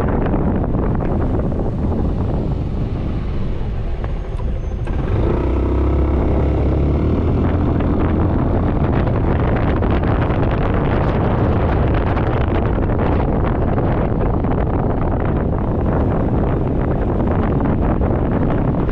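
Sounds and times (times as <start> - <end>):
scooter engine drone: 0.0 - 18.9
wind rushing over microphone: 0.0 - 18.9.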